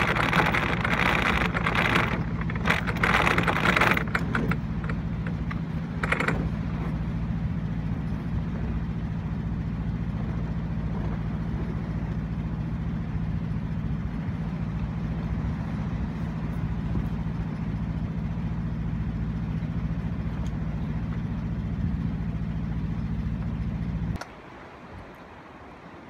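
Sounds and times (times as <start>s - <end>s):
boat engine idling: 0.0s - 26.0s.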